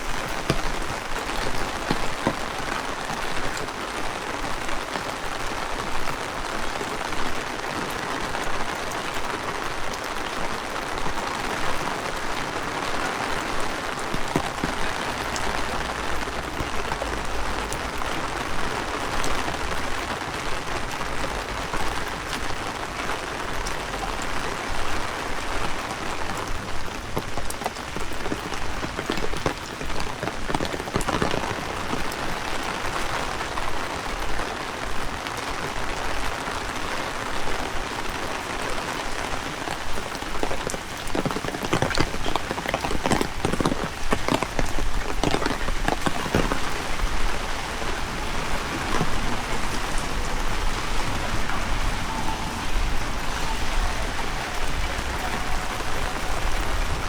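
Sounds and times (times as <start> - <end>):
heavy rain on street: 0.0 - 57.0.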